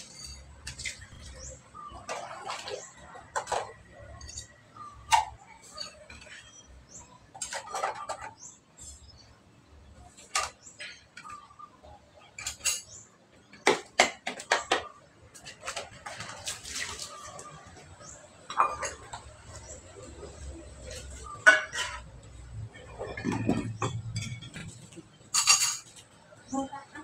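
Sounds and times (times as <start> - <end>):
dishes clattering: 0.0 - 9.0, 10.2 - 11.6, 12.2 - 26.0.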